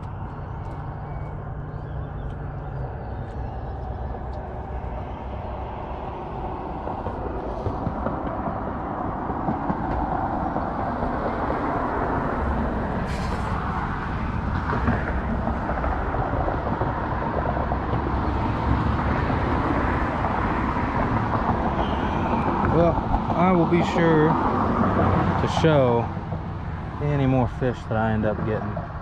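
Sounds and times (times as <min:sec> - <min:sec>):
highway traffic rushing hum: 0:00.0 - 0:29.0.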